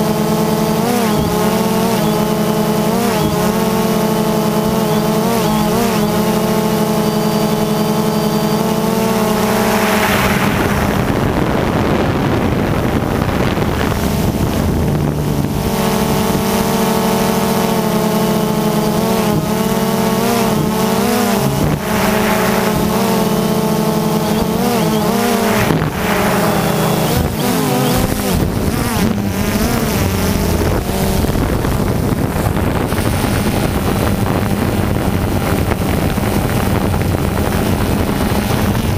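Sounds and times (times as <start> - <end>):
drone propellers droning: 0.0 - 38.9.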